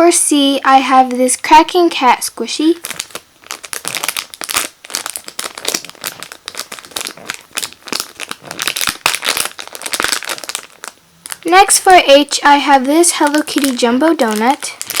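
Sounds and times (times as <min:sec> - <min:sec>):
plastic packaging crackling: 0:02.6 - 0:15.0.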